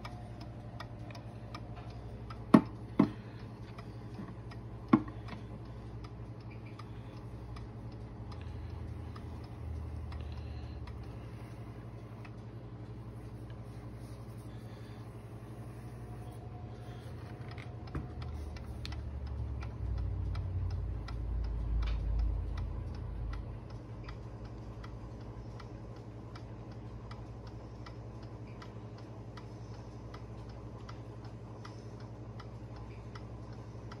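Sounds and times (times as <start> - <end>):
clock ticking: 0.0 - 34.0.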